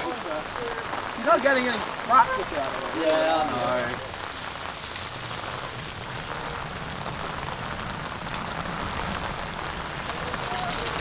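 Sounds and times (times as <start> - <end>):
rain and wind hiss: 0.0 - 11.0.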